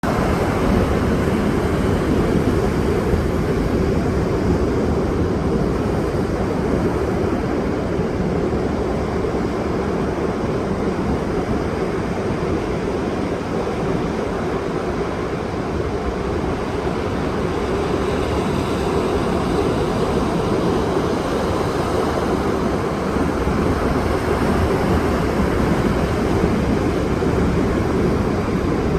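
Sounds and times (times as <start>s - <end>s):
ocean surf on shore: 0.0s - 11.0s, 11.6s - 28.9s.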